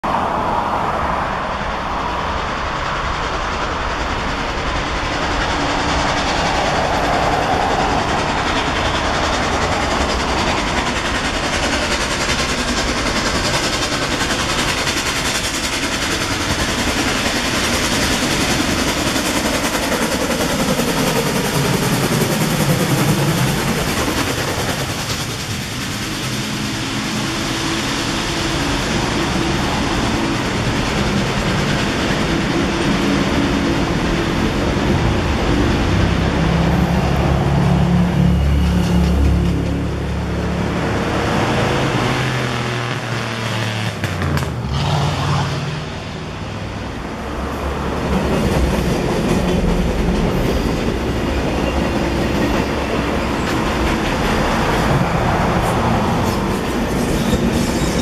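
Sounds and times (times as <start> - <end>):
steam locomotive exhaust rush: 0.0 - 58.0
train wheels clattering on rails: 0.1 - 58.0.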